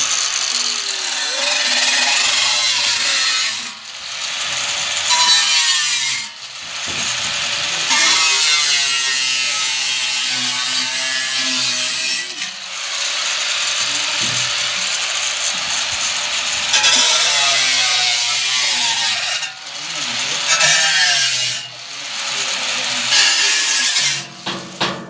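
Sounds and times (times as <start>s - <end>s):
power tool cutting: 0.0s - 25.0s.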